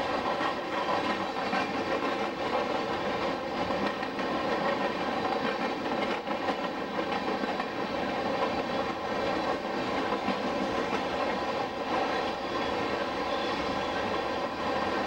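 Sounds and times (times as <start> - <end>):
wheels clicking over rail joints: 0.0 - 13.0
freight train rumbling past: 0.0 - 15.0.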